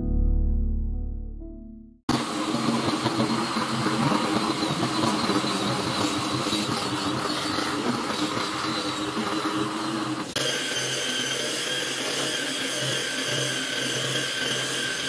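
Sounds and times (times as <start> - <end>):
electric disc sander on wood: 2.1 - 15.0.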